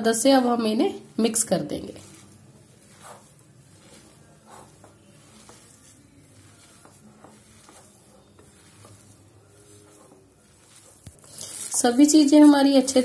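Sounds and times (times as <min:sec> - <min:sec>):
hand mixing crumbly mixture: 0:00.0 - 0:13.0.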